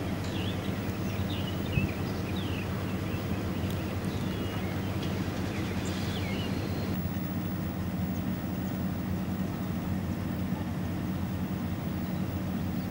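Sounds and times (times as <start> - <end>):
low mechanical hum: 0.0 - 12.9.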